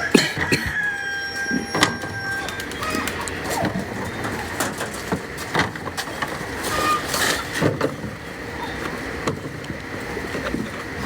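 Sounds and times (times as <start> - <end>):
fruit and leaves rustling: 0.8 - 11.0.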